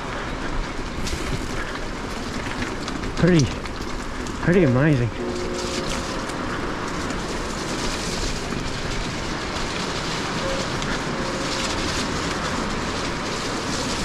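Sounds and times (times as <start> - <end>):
bike rattling: 0.0 - 14.0
tyres crunching over stones: 0.0 - 14.0.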